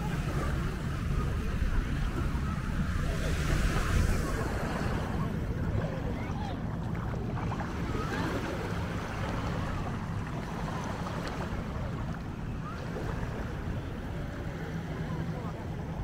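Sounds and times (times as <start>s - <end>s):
waves washing ashore: 0.0s - 16.0s
wind rumbling on microphone: 0.0s - 16.0s.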